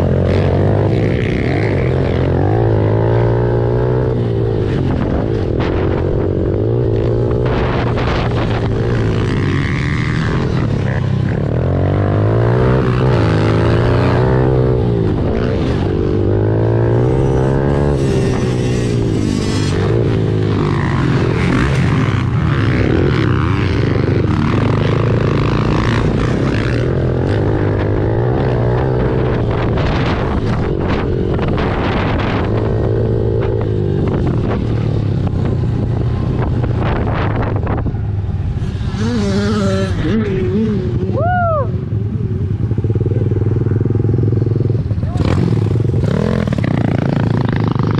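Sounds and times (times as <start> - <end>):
motorbike engine revving: 0.0 - 41.3, 42.0 - 47.9.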